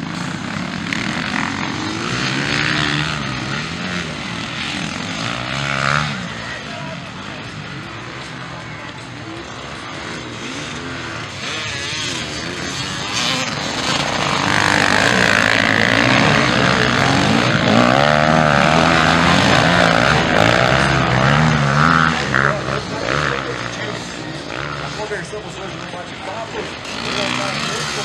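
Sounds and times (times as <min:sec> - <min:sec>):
motocross engines revving: 0:00.0 - 0:28.0.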